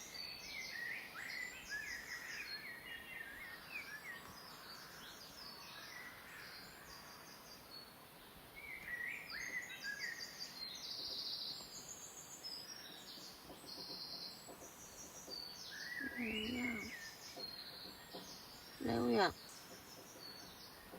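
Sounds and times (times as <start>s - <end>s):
birds singing: 0.0s - 20.9s.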